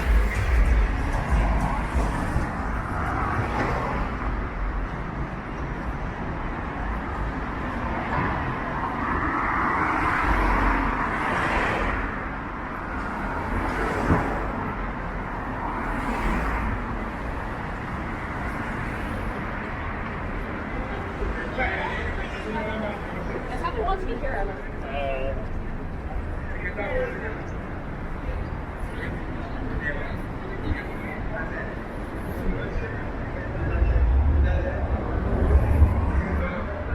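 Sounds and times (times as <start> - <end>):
cars passing: 0.0 - 36.9.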